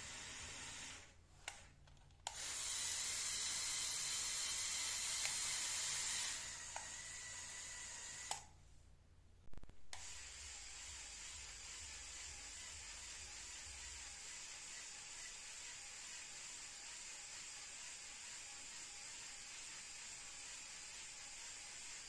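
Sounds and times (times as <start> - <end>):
small electric motors whirring: 0.0 - 1.7, 2.3 - 8.4, 10.0 - 22.0.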